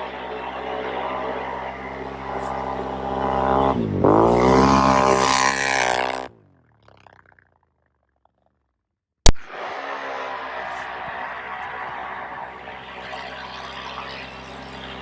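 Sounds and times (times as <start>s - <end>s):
atv engine revving hard: 0.0s - 7.6s, 10.4s - 15.0s.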